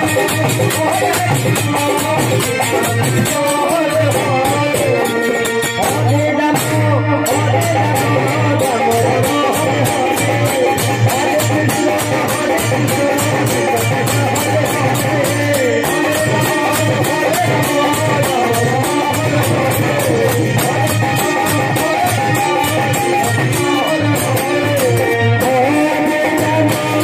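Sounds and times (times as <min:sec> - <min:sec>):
jingling percussion beat: 0:00.0 - 0:27.0.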